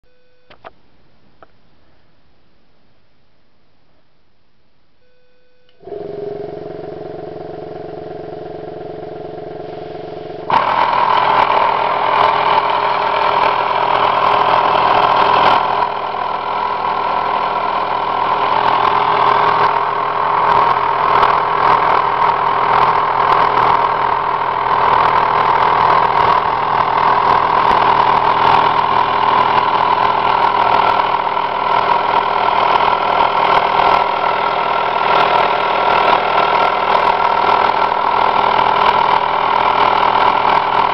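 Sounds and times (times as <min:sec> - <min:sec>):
small toy engine running: 0:05.8 - 0:40.9.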